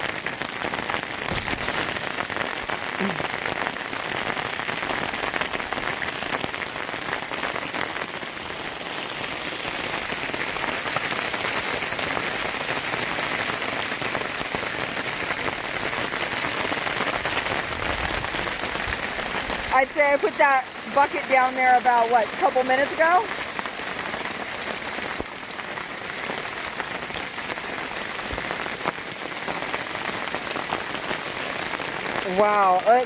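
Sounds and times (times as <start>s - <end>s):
hail pelting down: 0.0s - 33.0s.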